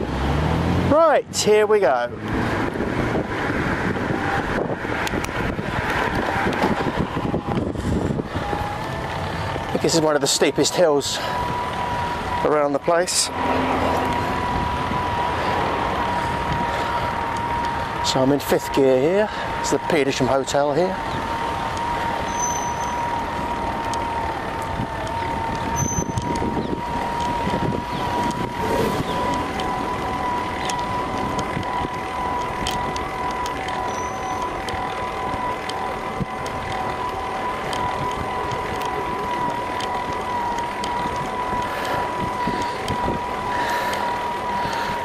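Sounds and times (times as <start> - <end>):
wind noise: 2.2 - 10.0, 13.4 - 18.2, 21.0 - 45.0.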